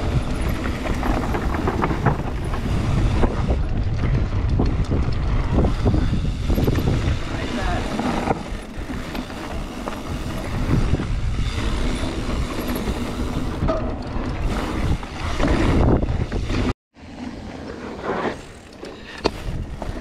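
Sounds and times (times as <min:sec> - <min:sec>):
bike knocks and rattles: 0:00.0 - 0:16.7
wind rumbling on microphone: 0:00.0 - 0:16.8, 0:19.3 - 0:20.0
bike tyre noise: 0:00.0 - 0:20.0.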